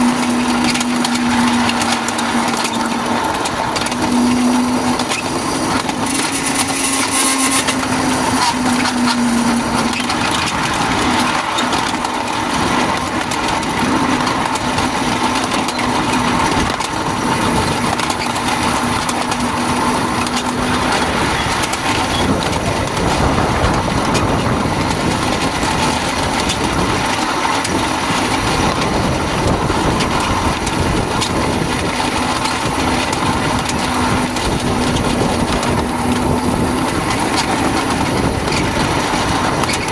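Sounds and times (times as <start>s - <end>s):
train wheels rattling: 0.0s - 39.9s.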